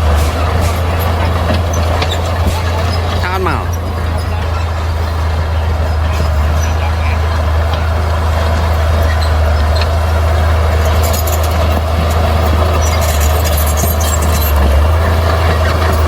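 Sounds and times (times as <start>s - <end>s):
diesel machinery engine drone: 0.0s - 16.0s
machinery clatter: 0.0s - 16.0s.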